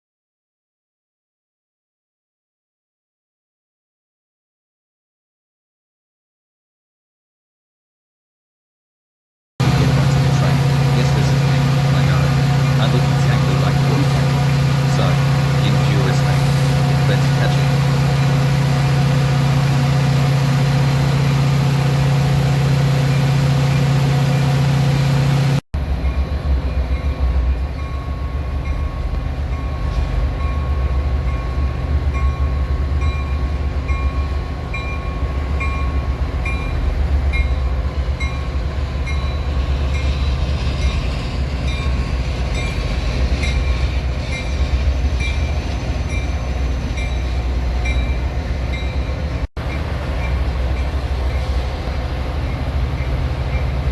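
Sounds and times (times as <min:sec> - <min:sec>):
diesel train engine idling: 0:09.6 - 0:53.9
train rumbling past: 0:09.6 - 0:53.9.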